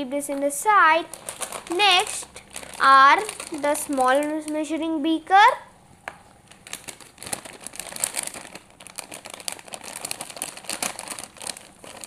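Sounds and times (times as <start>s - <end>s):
plastic bag crinkling: 0.2s - 4.8s, 6.3s - 12.0s.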